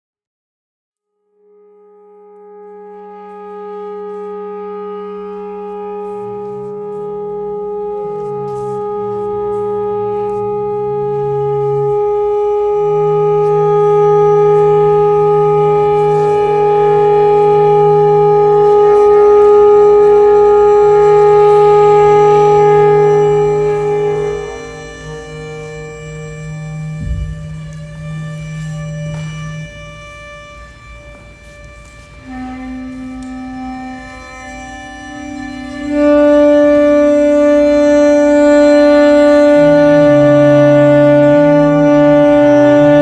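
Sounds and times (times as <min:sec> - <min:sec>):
woodwinds improvising: 0:02.3 - 0:43.0.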